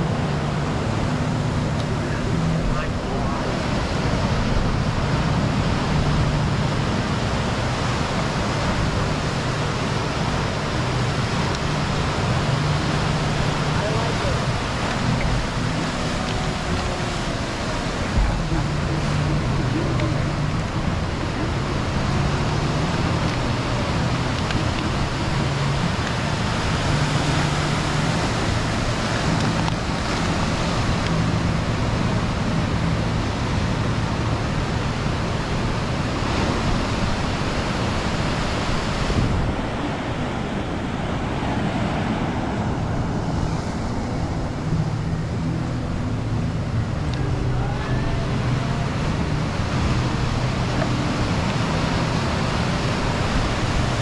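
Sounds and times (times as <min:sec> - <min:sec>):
low humming notes: 0:00.0 - 0:54.0
rushing outdoor noise: 0:00.0 - 0:54.0.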